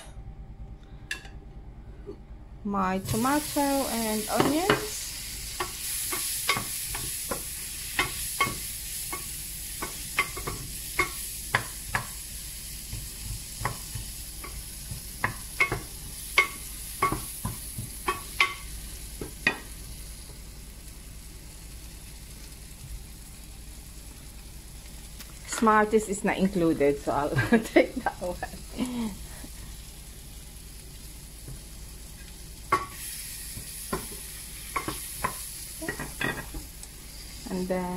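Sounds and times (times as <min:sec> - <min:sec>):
vegetables sizzling in oil: 0:02.8 - 0:37.9.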